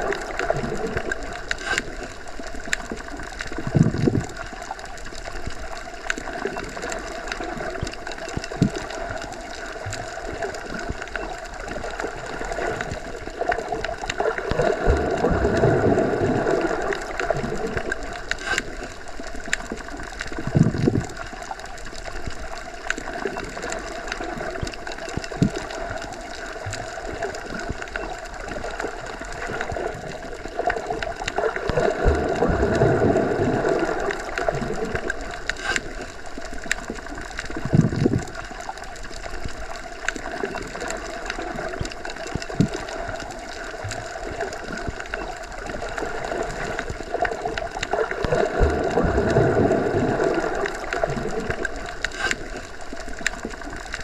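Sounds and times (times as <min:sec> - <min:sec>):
small underwater clicks: 0:00.0 - 0:54.0
underwater water noise: 0:00.0 - 0:54.0.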